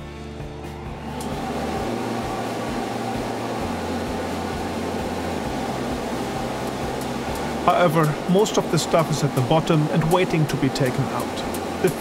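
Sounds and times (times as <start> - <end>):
dust collector blower running: 0.0 - 12.0.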